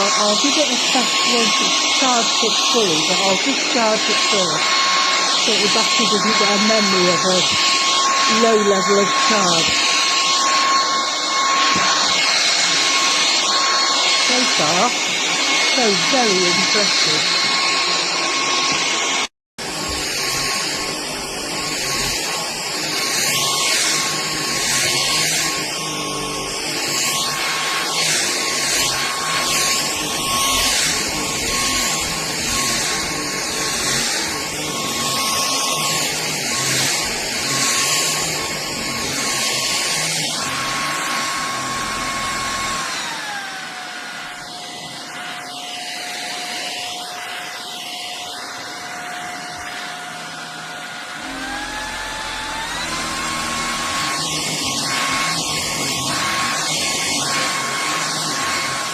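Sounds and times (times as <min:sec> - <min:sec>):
stick vacuum motor whine: 0:00.0 - 0:58.9.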